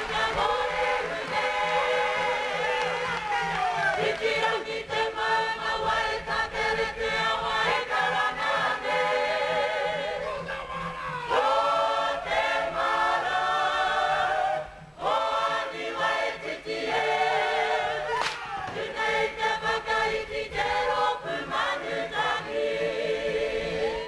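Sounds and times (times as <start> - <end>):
group singing in unison: 0.0 - 24.0.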